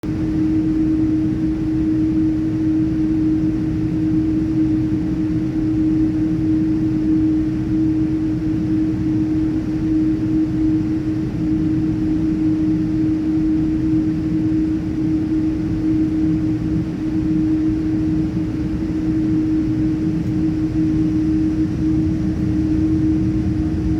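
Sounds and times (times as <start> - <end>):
airliner cabin rumble and hum: 0.0 - 23.9.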